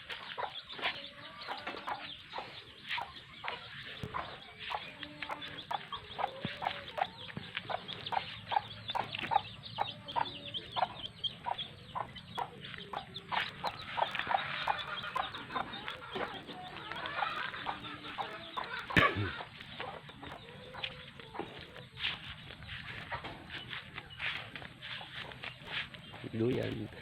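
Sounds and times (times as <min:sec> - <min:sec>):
chickens clucking and peeping: 0:00.0 - 0:27.0.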